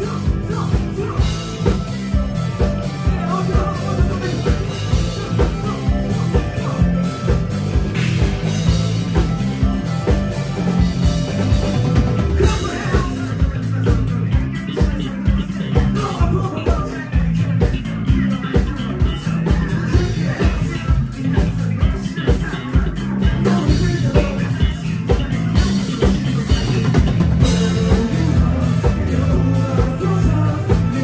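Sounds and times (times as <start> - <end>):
person singing: 0.0 - 31.0
rock band playing live: 0.0 - 31.0.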